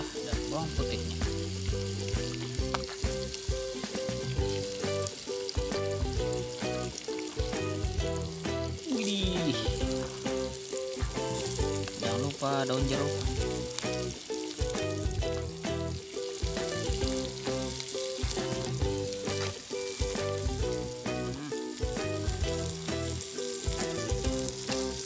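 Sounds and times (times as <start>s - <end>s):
background music with steady beat: 0.0s - 25.0s
food sizzling in a pan: 0.0s - 25.0s.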